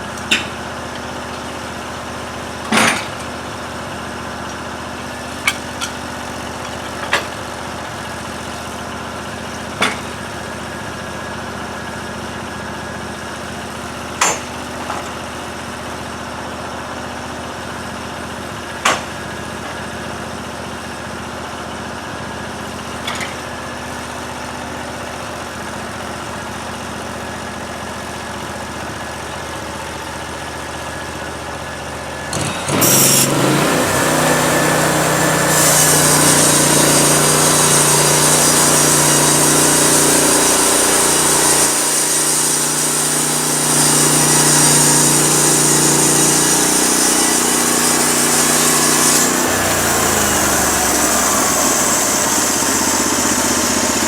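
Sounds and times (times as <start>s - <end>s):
small engine idling: 0.0s - 54.0s.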